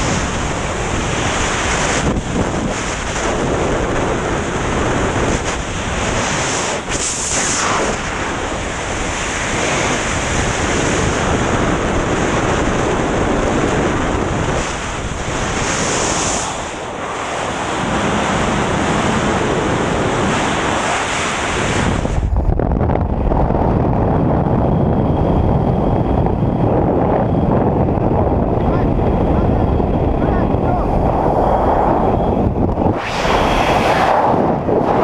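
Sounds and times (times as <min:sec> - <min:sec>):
aircraft rumble: 0:00.0 - 0:35.0
wind rushing over microphone: 0:00.0 - 0:35.0.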